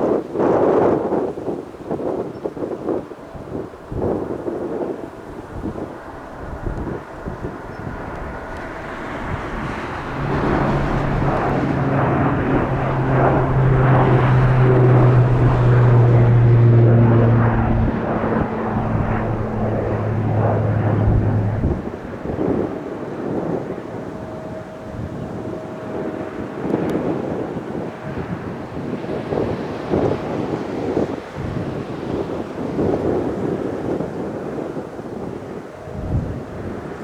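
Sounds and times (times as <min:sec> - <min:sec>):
wind rumble on microphone: 0:00.0 - 0:37.0
propeller plane passing by: 0:01.0 - 0:37.0.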